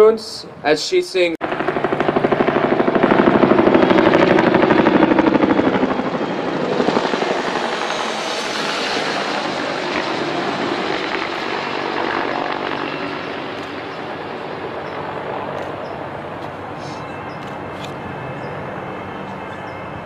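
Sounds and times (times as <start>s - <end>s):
low-flying aircraft: 1.4s - 20.0s.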